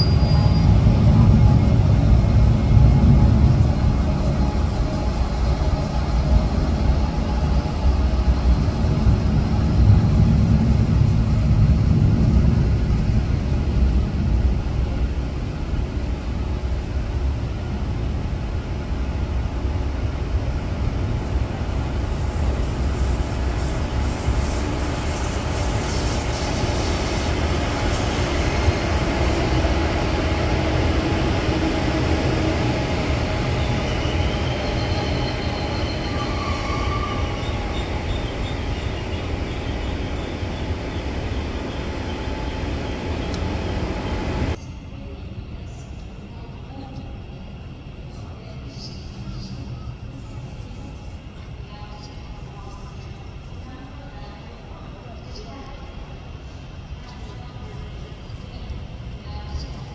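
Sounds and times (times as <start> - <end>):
train low rumble: 0.0 - 59.9.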